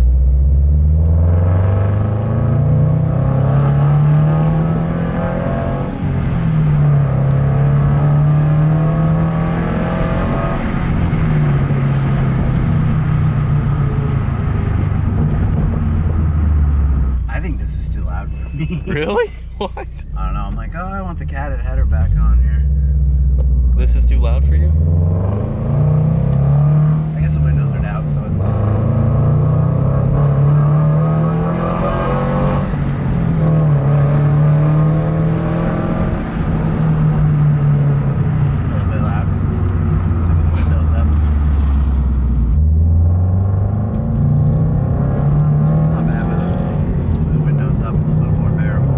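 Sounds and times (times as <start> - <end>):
car exhaust drone from inside cabin: 0.0 - 21.2, 21.8 - 48.5.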